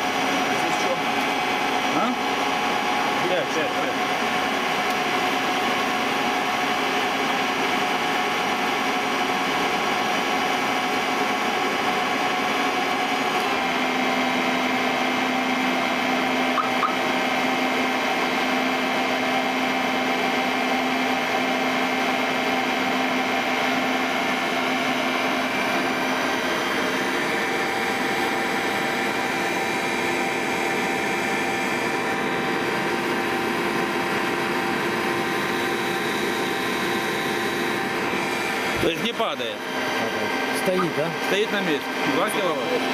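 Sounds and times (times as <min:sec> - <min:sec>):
motor-generator whine: 0:00.0 - 0:42.9.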